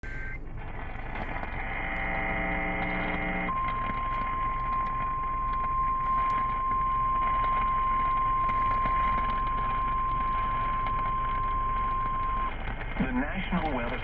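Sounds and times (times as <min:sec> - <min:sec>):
buzzing alarm tone: 0:00.0 - 0:12.9
steady high warning tone: 0:00.0 - 0:14.0.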